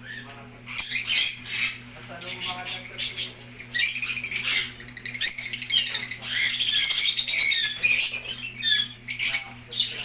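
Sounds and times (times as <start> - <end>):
lovebirds chattering and squawking: 0.0 - 10.0.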